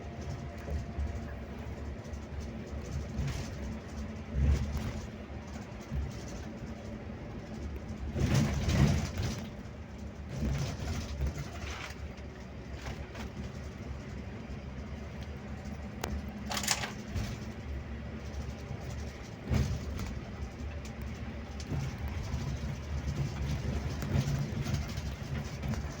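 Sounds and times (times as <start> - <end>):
coach diesel engine droning: 0.0 - 26.0.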